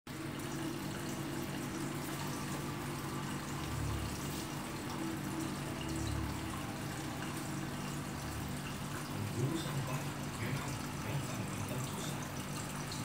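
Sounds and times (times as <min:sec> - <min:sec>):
low constant hum: 0:00.1 - 0:13.0.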